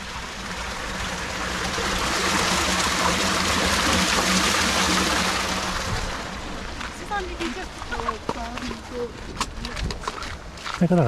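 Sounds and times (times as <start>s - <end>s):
running water rushing: 0.0s - 10.6s.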